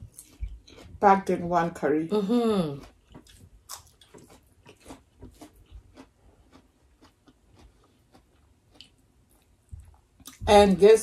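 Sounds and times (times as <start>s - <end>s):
people chewing food: 0.0s - 10.8s.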